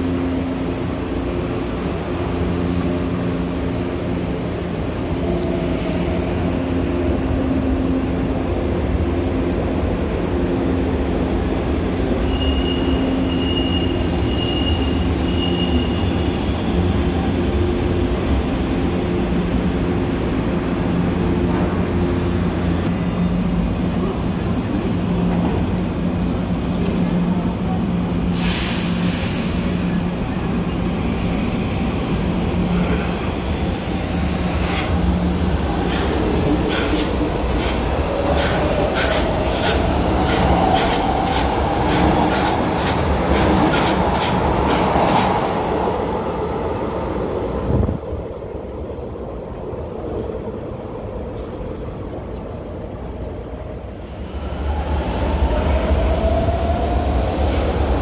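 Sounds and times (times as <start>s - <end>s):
train hum: 0.0s - 58.0s.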